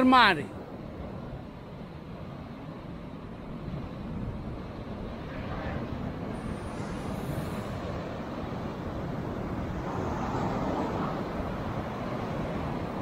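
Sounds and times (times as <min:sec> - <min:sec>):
surf washing up beach: 0:00.0 - 0:13.0
wind rumbling on microphone: 0:00.5 - 0:13.0.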